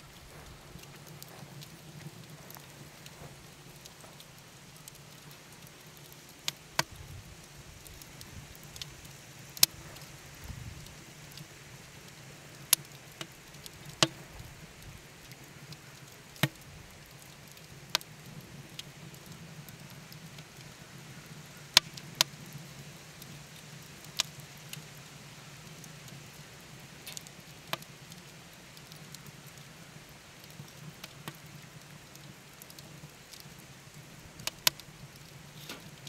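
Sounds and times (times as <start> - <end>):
faint steady hiss: 0.0 - 36.0
wood fire crackling and popping: 0.0 - 36.0.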